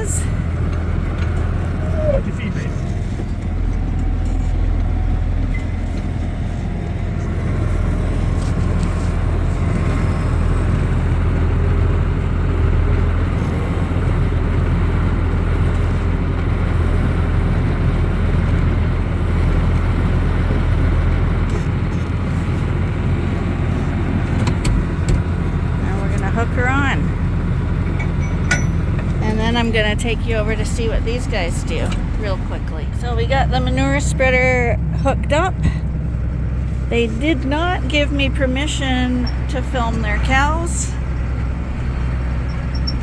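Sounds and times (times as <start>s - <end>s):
tractor engine rumbling: 0.0s - 43.0s.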